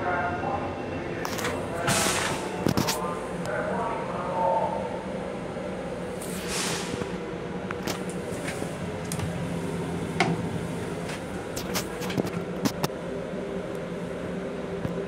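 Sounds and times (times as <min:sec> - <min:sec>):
railcar hum: 0:00.0 - 0:15.0.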